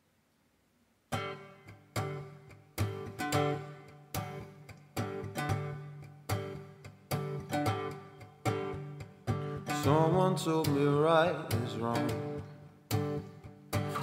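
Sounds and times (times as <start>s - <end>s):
acoustic guitar strumming: 1.1s - 14.0s.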